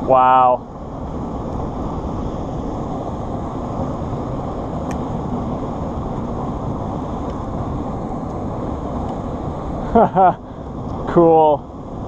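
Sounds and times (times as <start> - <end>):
low rushing noise: 0.0 - 12.0.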